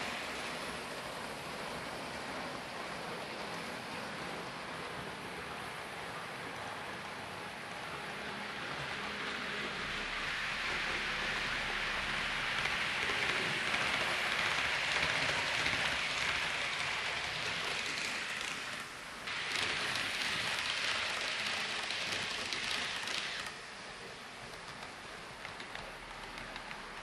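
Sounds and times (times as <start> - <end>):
model trains running on track: 0.0 - 27.0.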